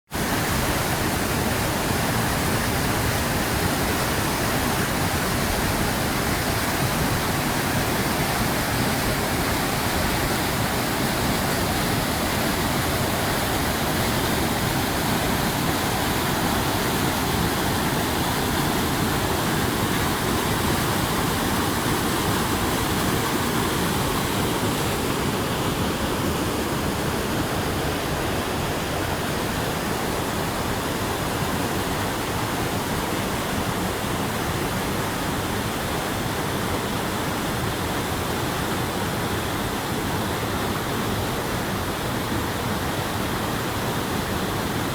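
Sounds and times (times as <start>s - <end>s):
waterfall rushing: 0.2s - 44.9s.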